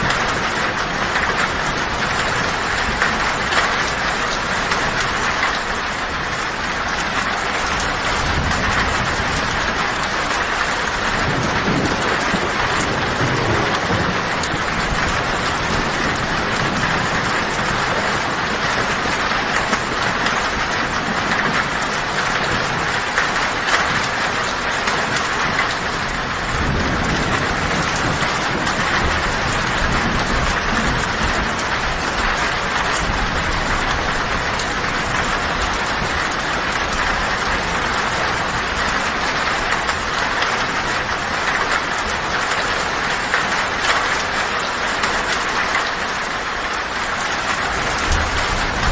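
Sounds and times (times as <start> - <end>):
low thunder rumbling: 0.0 - 48.9
rain on a metal roof: 0.0 - 48.9.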